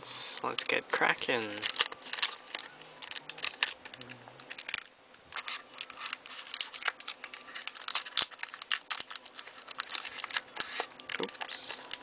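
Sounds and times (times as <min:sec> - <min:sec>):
foil wrapper crinkling and tearing: 0:00.2 - 0:12.0.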